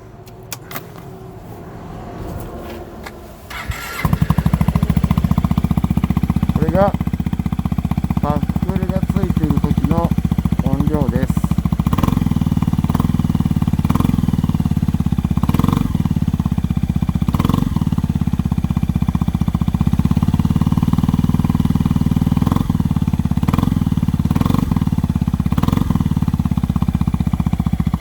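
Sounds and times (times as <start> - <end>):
scooter engine idling: 3.5 - 28.0.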